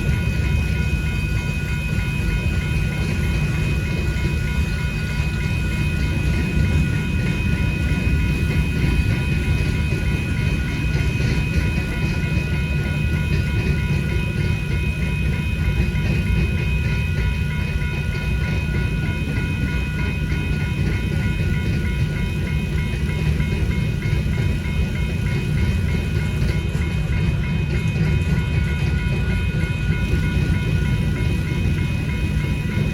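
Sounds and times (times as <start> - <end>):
crossing signal bell ringing: 0.0 - 32.9
freight train rumbling: 0.0 - 32.9.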